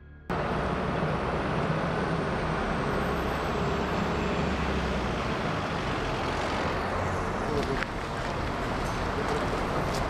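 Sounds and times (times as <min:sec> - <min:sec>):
vehicle engine rumble: 0:00.1 - 0:10.0
street noise hiss: 0:00.4 - 0:10.0.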